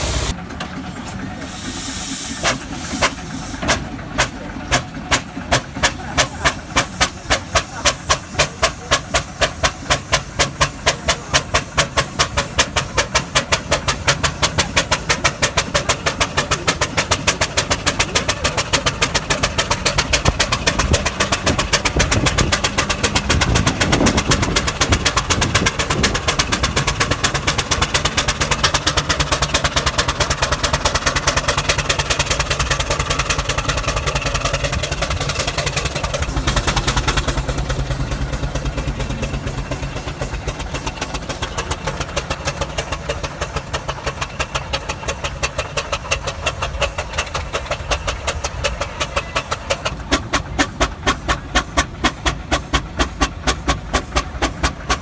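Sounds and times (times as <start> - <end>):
steam traction engine beating: 0.0 - 55.0.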